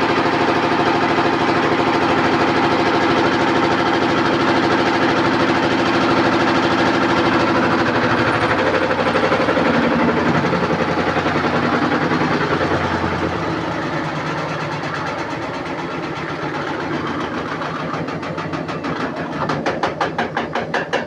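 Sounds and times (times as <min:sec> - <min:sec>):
washing machine spinning: 0:00.0 - 0:21.0.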